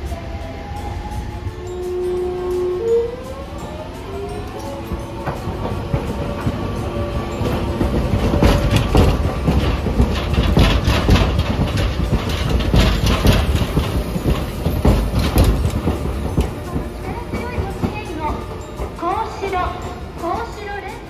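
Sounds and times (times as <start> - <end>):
tram low rumble: 0.0 - 21.0
tram wheels clacking over rail joints: 0.0 - 21.0.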